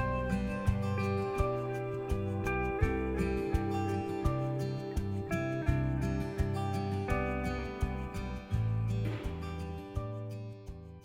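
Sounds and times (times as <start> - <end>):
drum beat: 0.0 - 10.2
plucked guitar notes: 0.0 - 11.0.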